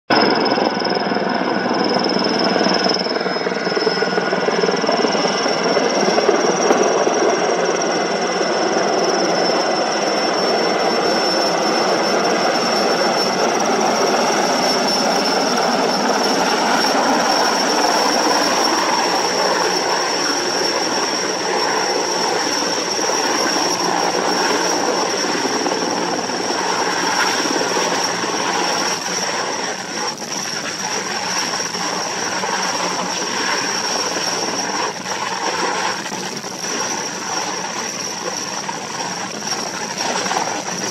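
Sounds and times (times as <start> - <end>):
helicopter rotor and engine: 0.1 - 40.9
high turbine whine: 0.1 - 40.9.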